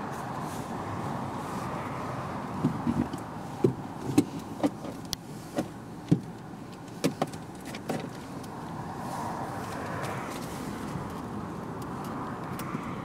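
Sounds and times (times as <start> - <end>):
leather gloves creaking on steering wheel: 2.6 - 13.0.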